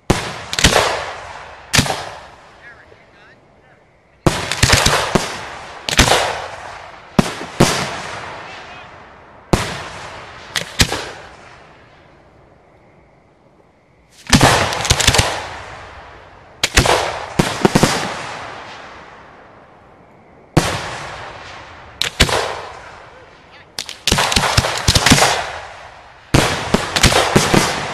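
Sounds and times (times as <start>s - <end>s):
fireworks bangs with rolling echo: 0.0s - 2.8s, 4.2s - 12.2s, 14.1s - 27.9s.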